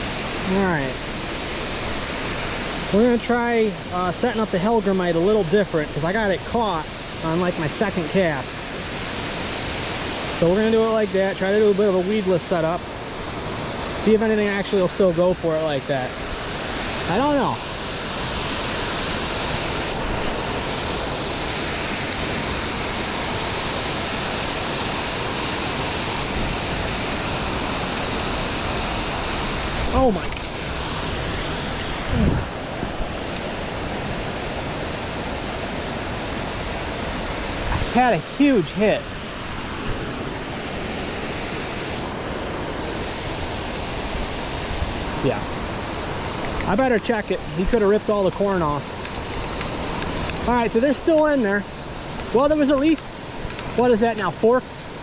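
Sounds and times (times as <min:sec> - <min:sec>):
water rushing over waterfall: 0:00.0 - 0:32.5, 0:41.6 - 0:55.0.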